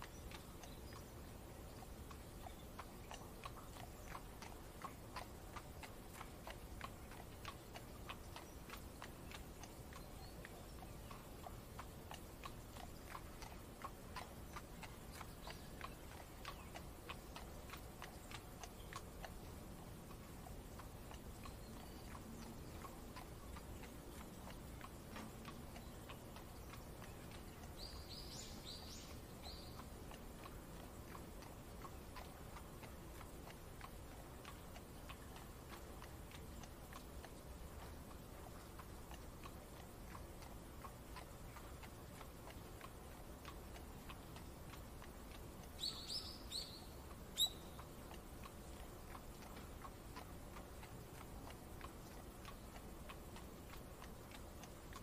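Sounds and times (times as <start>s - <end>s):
rain hiss: 0.0s - 54.9s
horse hooves clip-clop: 0.0s - 55.0s
small birds chirping: 0.0s - 55.0s.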